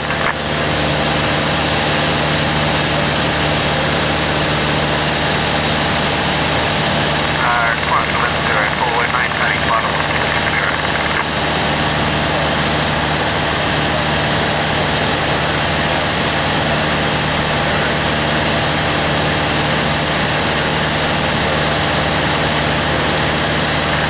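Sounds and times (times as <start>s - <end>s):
airplane engine and propeller droning: 0.0s - 24.0s.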